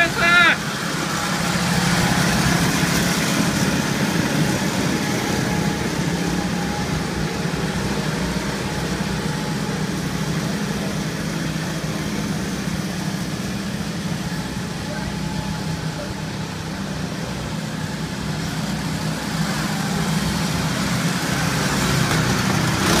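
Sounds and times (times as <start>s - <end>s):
go-kart engines passing: 0.0s - 23.0s.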